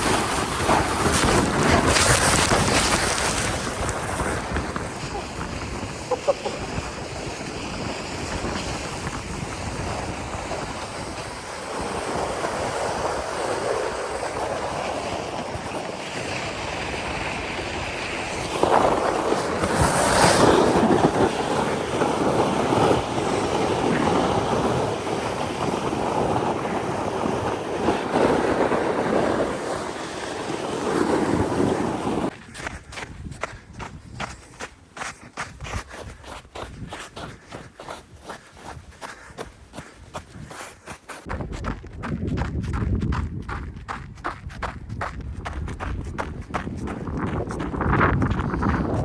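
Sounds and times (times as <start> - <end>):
wind rushing over microphone: 0.0 - 34.5, 41.2 - 49.0.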